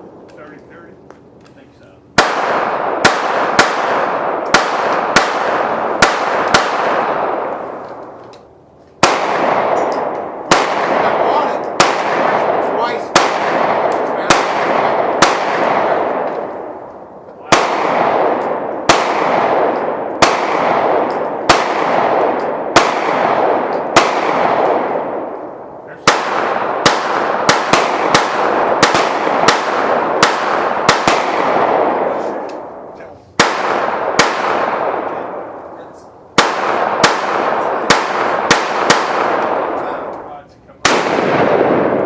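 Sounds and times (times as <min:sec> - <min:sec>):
gunshots with long echo: 0:02.1 - 0:42.0.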